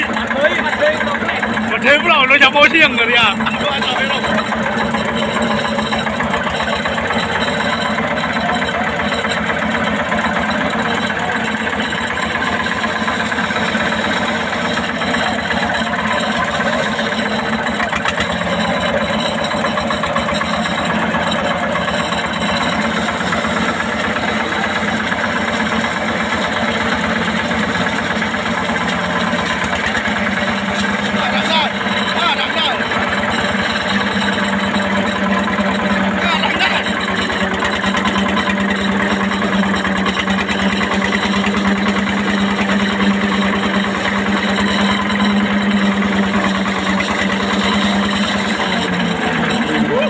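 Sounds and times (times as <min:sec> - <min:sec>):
boat engine running steadily: 0:00.0 - 0:50.0.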